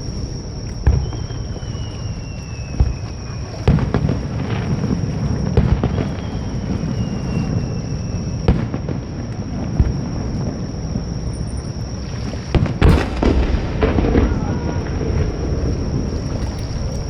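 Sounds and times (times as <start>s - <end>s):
firework whistle: 0.0s - 17.0s
fireworks bangs: 0.0s - 17.0s.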